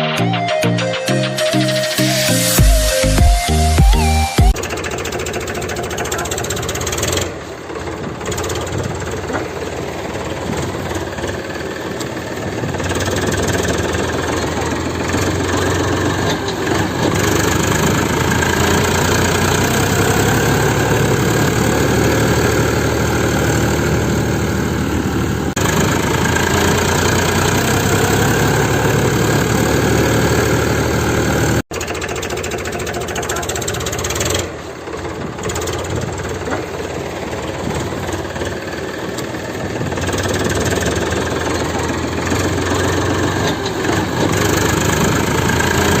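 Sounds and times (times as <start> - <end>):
tractor motor running: 4.0 - 46.0.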